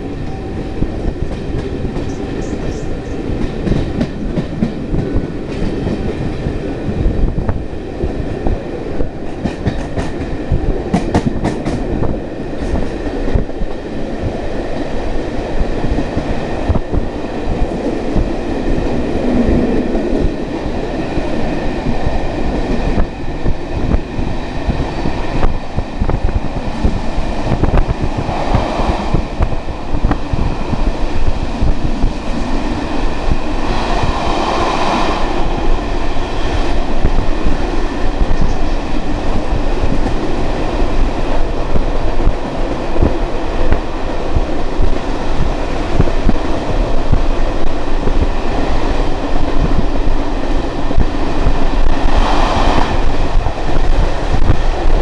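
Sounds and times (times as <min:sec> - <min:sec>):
rushing air: 0:00.0 - 0:55.0
train wheels rumbling on rails: 0:00.0 - 0:55.0.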